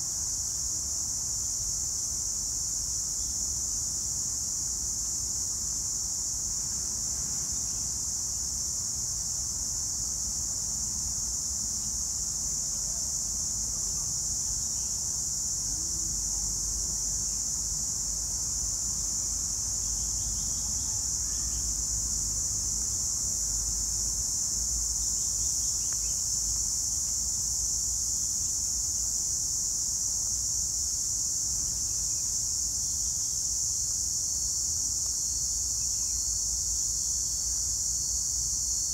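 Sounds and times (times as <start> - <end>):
insects droning in trees: 0.0 - 38.9.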